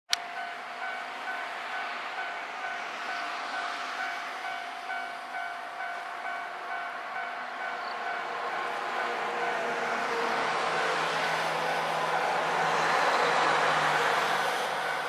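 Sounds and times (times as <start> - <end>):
faint train: 0.1 - 15.0
level crossing warning bell: 0.1 - 15.0.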